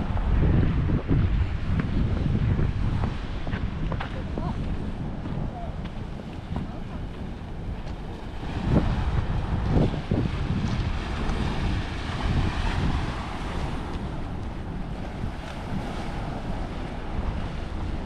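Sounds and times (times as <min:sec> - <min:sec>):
ocean surf on rocky shore: 0:00.0 - 0:18.0
wind buffeting microphone: 0:00.0 - 0:18.0.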